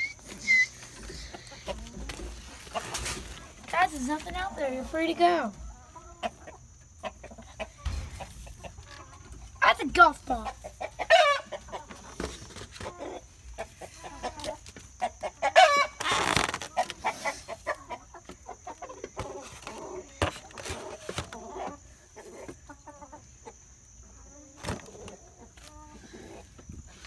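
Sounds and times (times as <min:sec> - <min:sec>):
hens clucking and squawking: 0:00.0 - 0:27.0.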